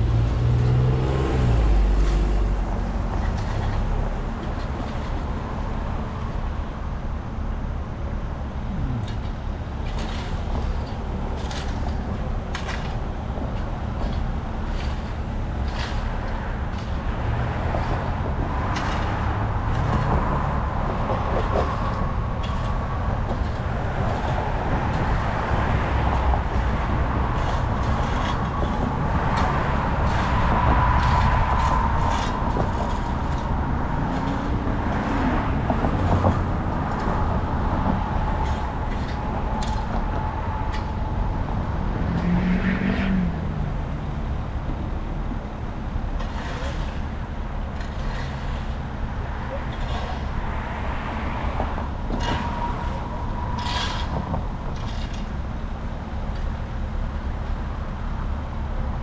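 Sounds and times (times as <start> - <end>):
vehicle rumble and road noise: 0.0 - 59.0.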